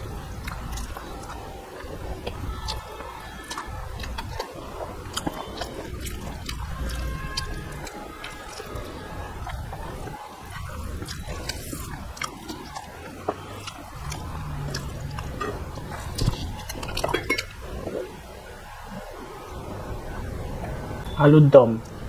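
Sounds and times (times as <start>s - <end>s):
person chewing food: 0.0s - 18.2s
small eating clicks: 0.0s - 18.2s.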